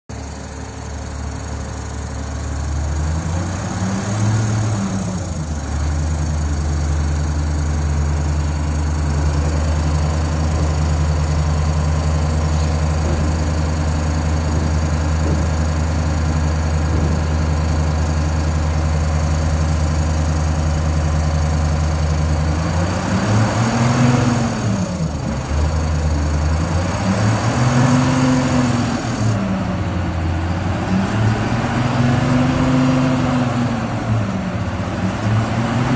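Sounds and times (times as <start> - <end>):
engine idling and revving: 0.1 - 35.9.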